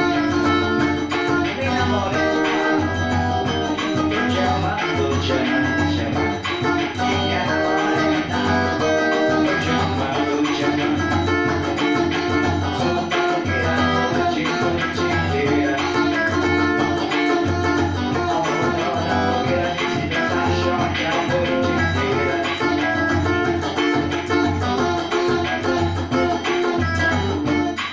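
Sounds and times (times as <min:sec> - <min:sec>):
guitar picking a melody: 0:00.0 - 0:27.9
steady beat and bass line: 0:00.0 - 0:27.9.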